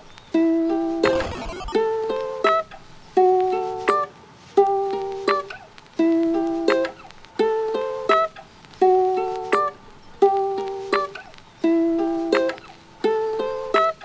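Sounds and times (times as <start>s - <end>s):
plucked string instrument music: 0.4s - 14.0s.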